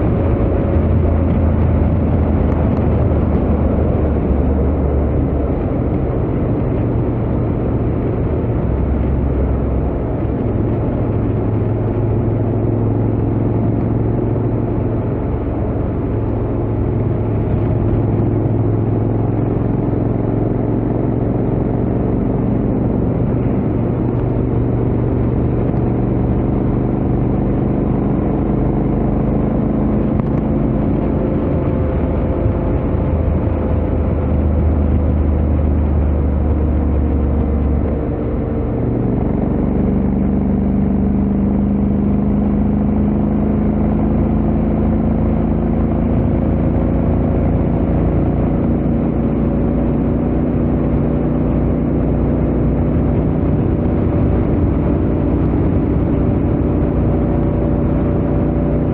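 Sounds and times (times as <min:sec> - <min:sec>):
motorcycle engine cruising: 0:00.0 - 0:58.9
wind and road noise: 0:00.0 - 0:58.9.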